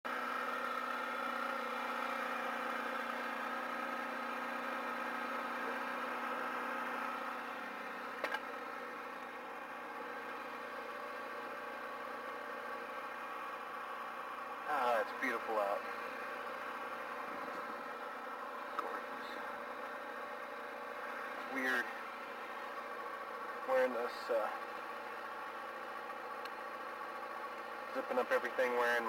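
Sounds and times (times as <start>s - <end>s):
motorcycle engine running: 0.1s - 29.0s.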